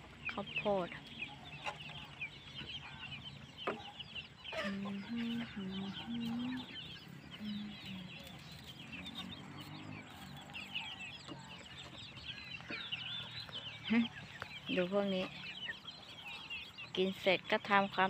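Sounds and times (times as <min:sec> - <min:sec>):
chicken clucking: 0:00.0 - 0:18.0
chicks peeping: 0:00.0 - 0:18.0.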